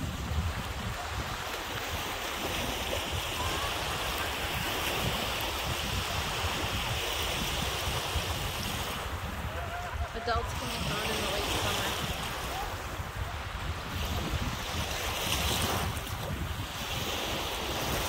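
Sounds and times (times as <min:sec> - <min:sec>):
waves breaking on sandy shore: 0:00.0 - 0:18.0
wind buffeting microphone: 0:00.0 - 0:18.0.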